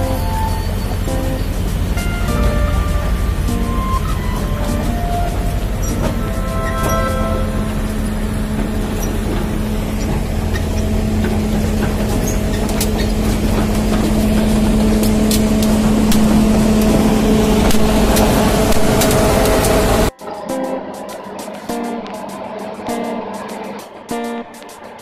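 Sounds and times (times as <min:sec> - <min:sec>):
construction machinery diesel engines idling: 0:00.0 - 0:20.1.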